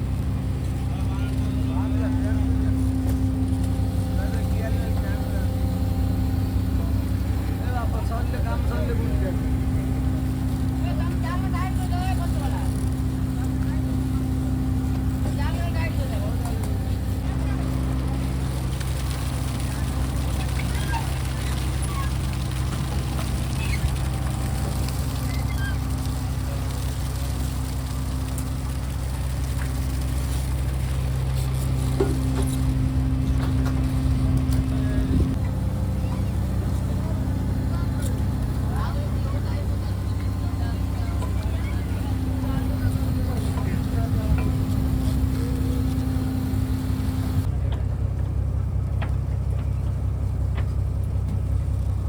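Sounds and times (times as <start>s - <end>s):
high steady hum: 0.0s - 48.6s
boat engine droning: 0.0s - 52.0s.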